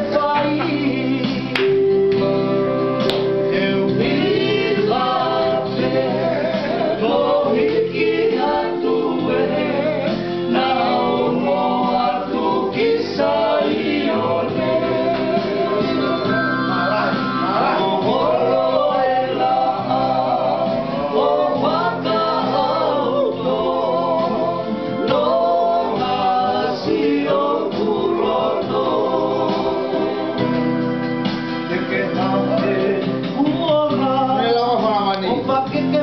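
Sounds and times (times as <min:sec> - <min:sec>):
men singing together: 0:00.0 - 0:01.9, 0:03.4 - 0:30.9, 0:31.6 - 0:36.0
electronic keyboard: 0:00.0 - 0:36.0.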